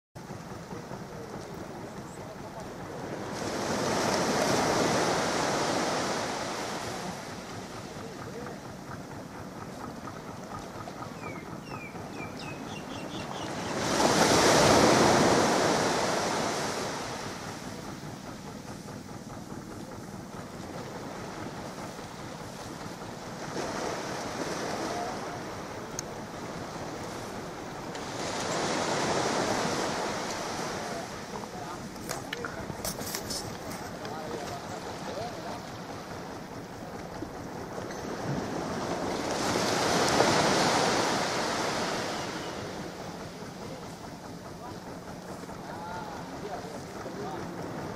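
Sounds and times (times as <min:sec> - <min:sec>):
sea water washing and splashing: 0:02.4 - 0:09.8, 0:12.8 - 0:18.5, 0:20.3 - 0:47.9.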